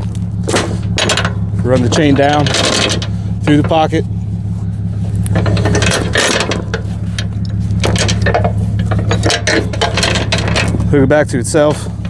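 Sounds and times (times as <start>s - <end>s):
chain clinking and rattling: 0.0s - 3.8s, 5.0s - 11.1s
steady low hum: 0.0s - 12.0s.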